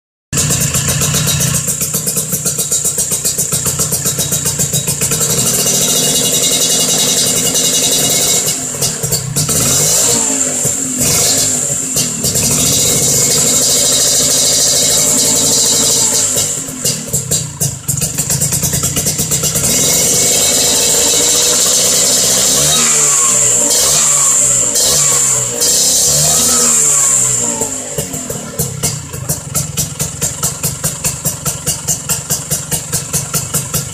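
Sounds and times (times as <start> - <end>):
scooter engine pulsing idle: 0.4 - 33.9.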